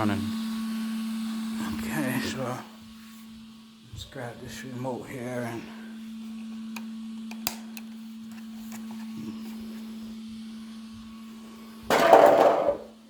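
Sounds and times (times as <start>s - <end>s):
cooling fans humming: 0.0s - 13.0s.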